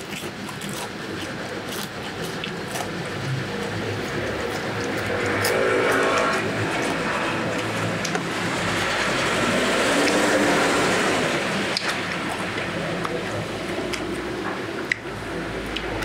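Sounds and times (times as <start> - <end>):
vehicles passing: 1.1 - 16.0.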